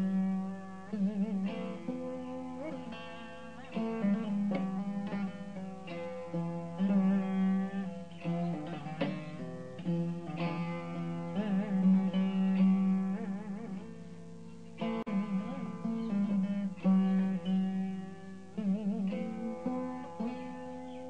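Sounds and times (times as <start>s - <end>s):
veena drone strings: 0.0s - 21.0s
veena plucked notes: 0.0s - 21.0s.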